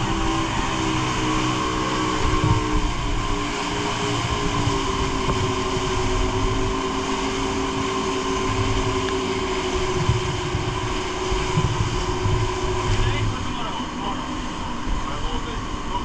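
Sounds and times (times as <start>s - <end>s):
boat engine droning: 0.0s - 16.0s
wake rushing: 0.0s - 16.0s
wind on microphone: 0.0s - 16.0s.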